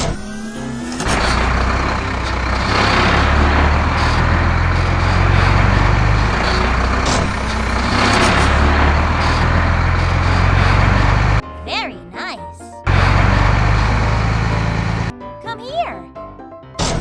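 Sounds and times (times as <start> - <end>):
heavy truck engine rumble: 0.0 - 11.4, 12.9 - 15.1.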